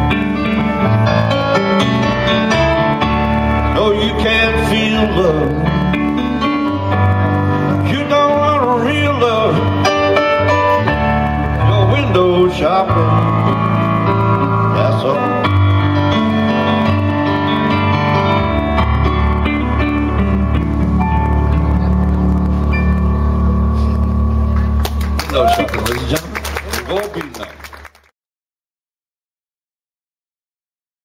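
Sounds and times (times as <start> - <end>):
keyboard piano chords: 0.0 - 27.8
live blues band playing: 0.0 - 27.8.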